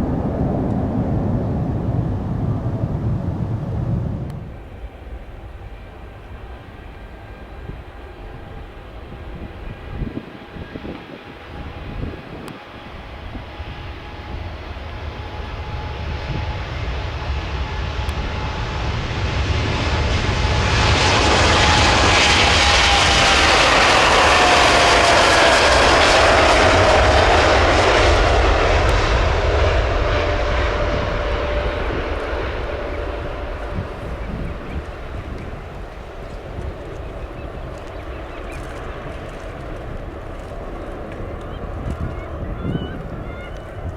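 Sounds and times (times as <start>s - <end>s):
jet engines passing by: 0.0s - 43.9s.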